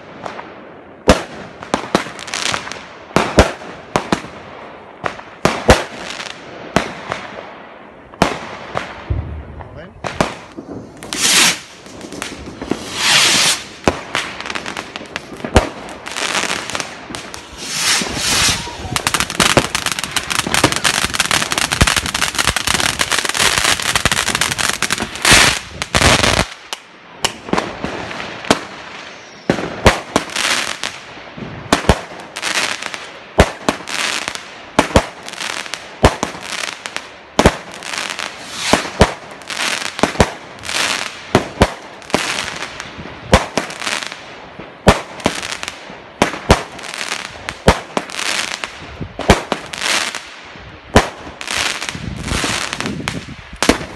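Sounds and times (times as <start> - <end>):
fireworks bangs: 0.0 - 53.9
fireworks crackling: 8.1 - 53.9.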